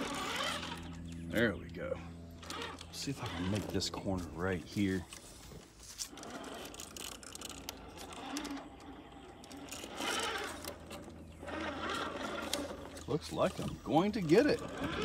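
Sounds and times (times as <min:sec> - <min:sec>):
rc truck motor whirring: 0:00.0 - 0:15.0.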